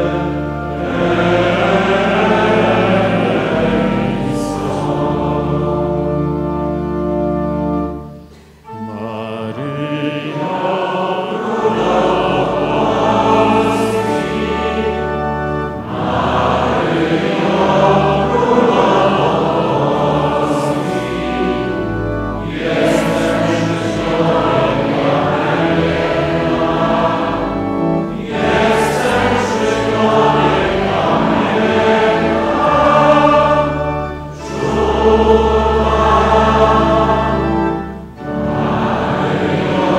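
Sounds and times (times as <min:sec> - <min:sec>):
low organ-like tones: 0:00.0 - 0:39.9
male choir singing a hymn: 0:00.0 - 0:39.9.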